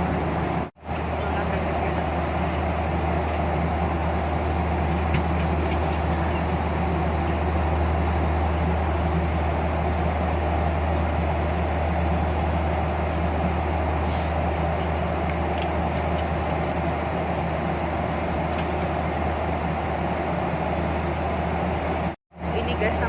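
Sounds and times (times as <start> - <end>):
airliner cabin engine drone: 0.0 - 23.0.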